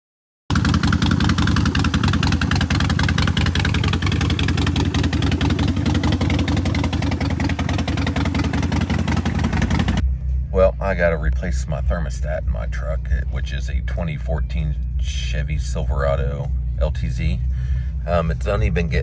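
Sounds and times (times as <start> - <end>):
vehicle engine running: 0.5 - 10.1, 11.4 - 19.0.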